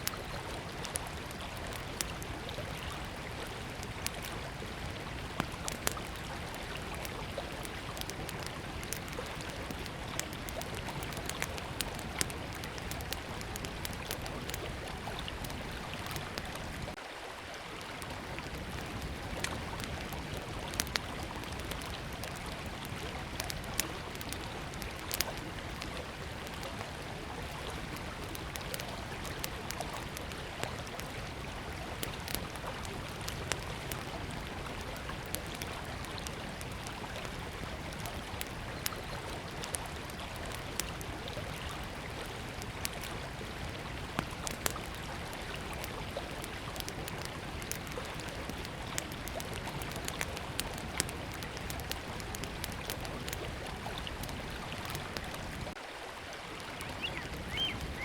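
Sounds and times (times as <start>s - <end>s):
campfire crackling and popping: 0.0s - 17.0s, 17.7s - 55.8s, 56.6s - 58.0s
river flowing: 0.0s - 58.0s.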